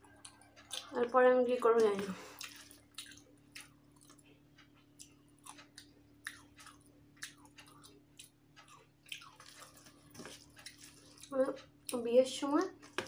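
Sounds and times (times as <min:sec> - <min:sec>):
close-up chewing: 0:00.0 - 0:12.0.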